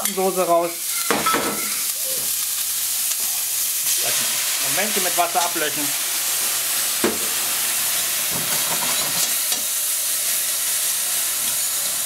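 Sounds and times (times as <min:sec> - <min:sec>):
water sizzling in hot pan: 0:00.0 - 0:12.0.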